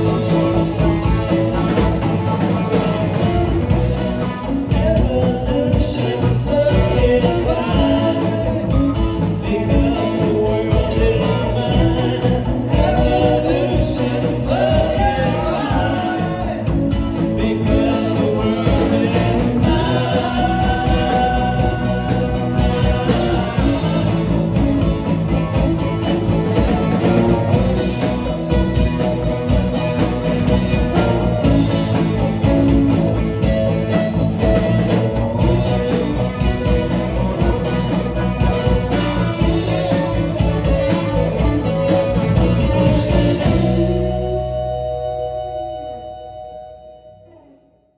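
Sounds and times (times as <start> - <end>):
rock band playing live: 0.0 - 47.7.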